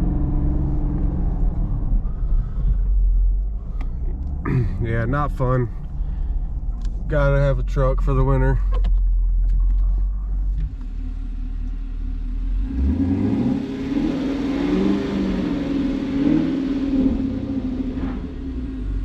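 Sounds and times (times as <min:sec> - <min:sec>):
car engine revving: 0:00.0 - 0:08.3, 0:09.0 - 0:19.0.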